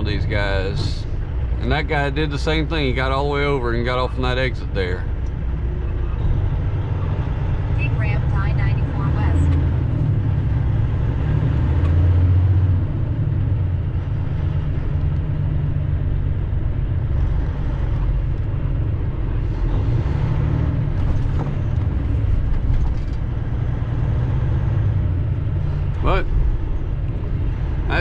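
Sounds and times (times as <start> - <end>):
truck diesel engine rumbling: 0.0 - 28.0.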